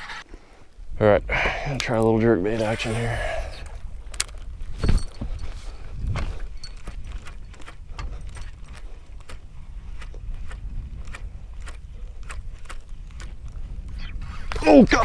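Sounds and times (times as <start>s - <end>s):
wind on microphone: 2.5s - 15.0s.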